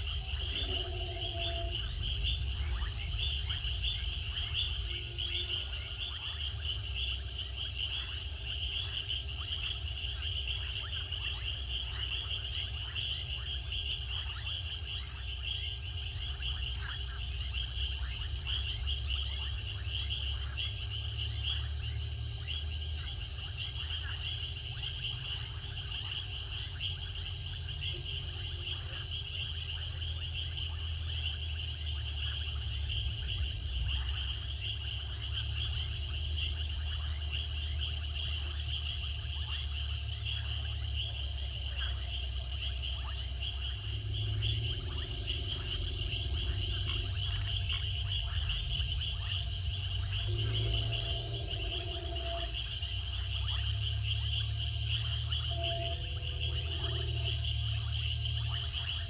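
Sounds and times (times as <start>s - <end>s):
crickets trilling: 0.0s - 59.0s
insect pulsed chirps: 0.0s - 59.0s
low steady rumble: 0.0s - 59.0s.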